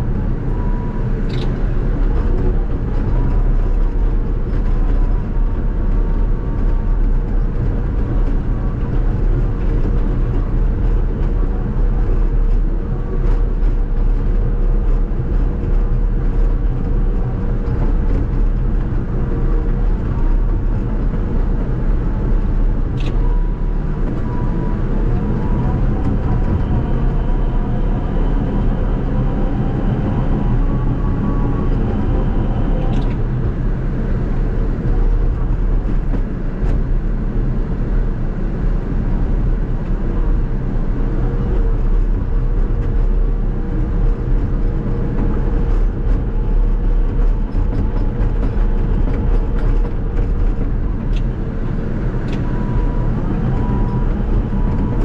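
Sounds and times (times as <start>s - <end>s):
bulldozer diesel drone: 0.0s - 55.0s.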